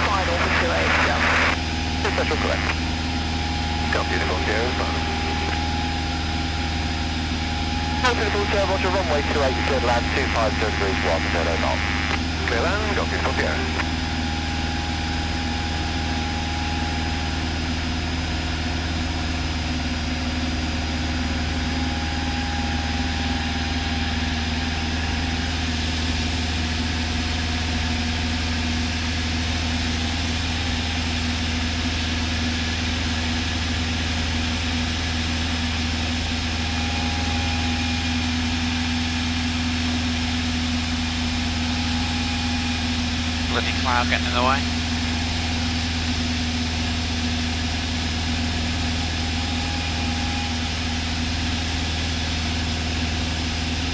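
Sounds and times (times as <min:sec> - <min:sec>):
propeller engine droning: 0:00.0 - 0:53.9.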